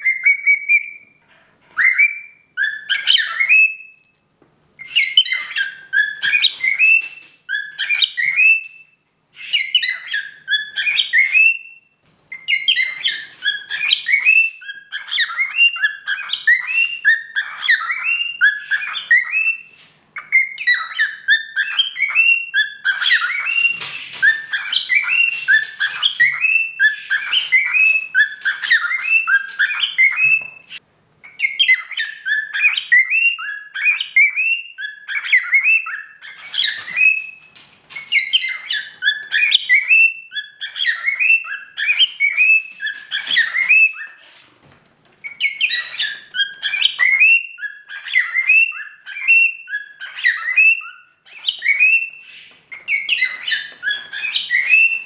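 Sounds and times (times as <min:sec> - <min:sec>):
cockatiel whistling and chirping: 0:00.0 - 0:04.1, 0:04.8 - 0:44.4, 0:45.2 - 0:55.0.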